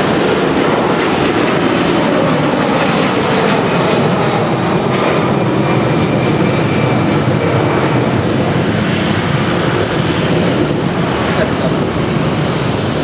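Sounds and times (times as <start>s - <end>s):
jet engines at climb power: 0.0s - 13.0s.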